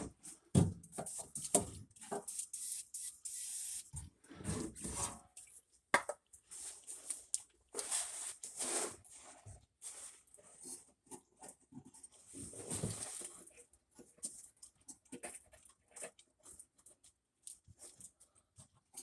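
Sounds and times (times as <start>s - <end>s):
rustling of hands and tools: 0.0s - 19.0s.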